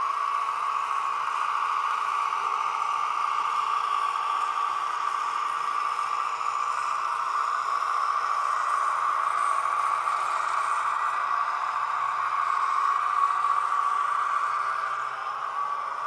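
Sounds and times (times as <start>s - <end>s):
model tram hissing and rattling: 0.0s - 16.0s.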